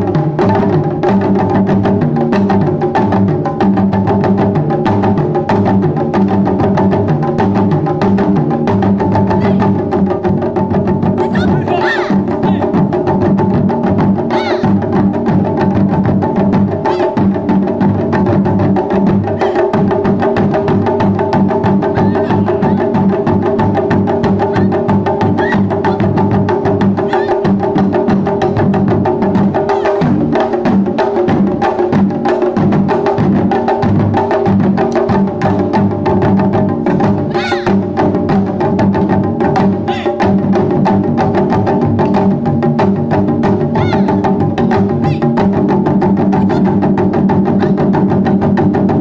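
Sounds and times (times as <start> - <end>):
taiko drums playing: 0.0 - 49.0.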